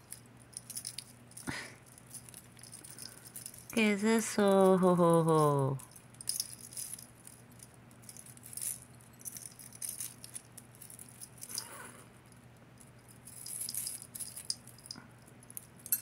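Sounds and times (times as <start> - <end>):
metal chains jingling: 0.0 - 3.8, 5.3 - 12.4, 13.0 - 16.0.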